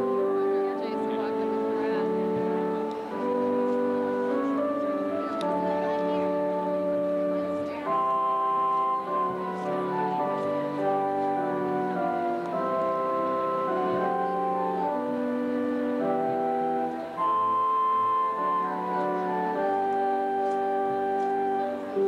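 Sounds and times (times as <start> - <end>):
organ playing sustained chords: 0.0 - 22.0.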